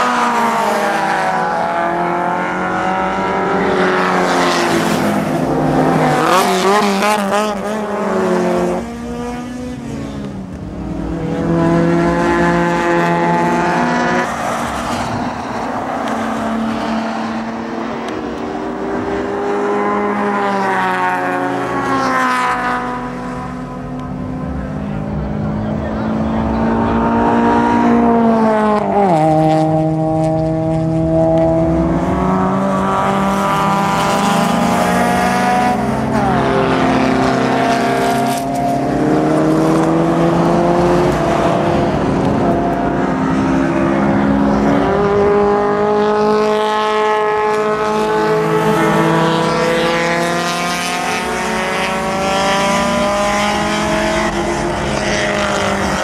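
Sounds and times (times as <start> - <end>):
race car engines accelerating: 0.0 - 56.0.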